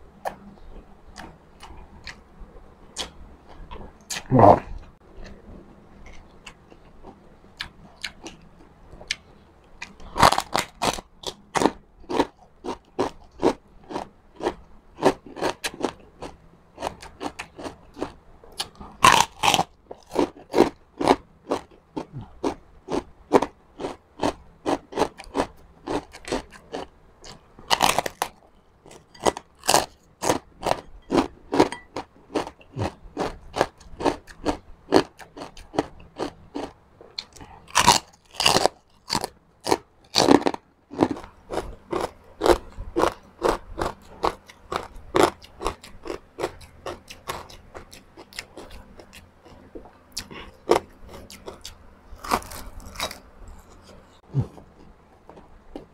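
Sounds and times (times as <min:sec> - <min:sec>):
crunching and chewing: 0:00.1 - 0:02.3, 0:02.9 - 0:55.9.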